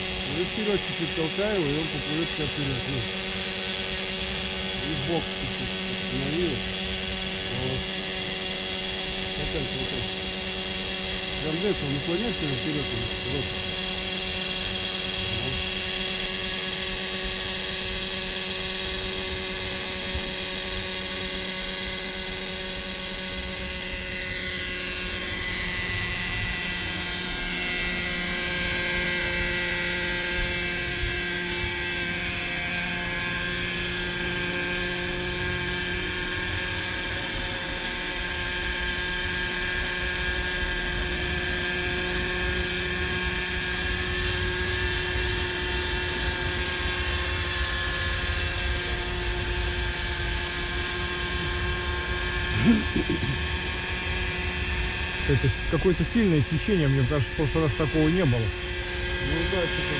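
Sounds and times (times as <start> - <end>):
model helicopter rotor whine: 0.0 - 59.9.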